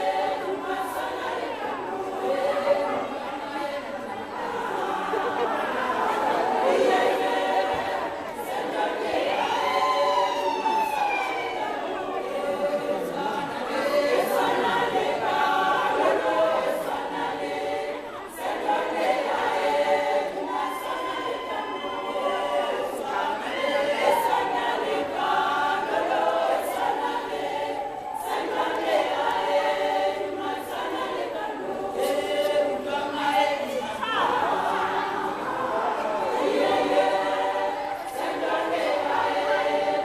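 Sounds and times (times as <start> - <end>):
women's choir singing a cappella: 0.0 - 40.0.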